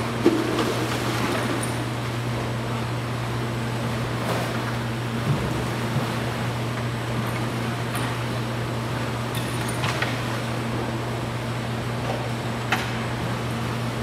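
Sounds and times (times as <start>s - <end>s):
machinery hum: 0.0s - 14.0s.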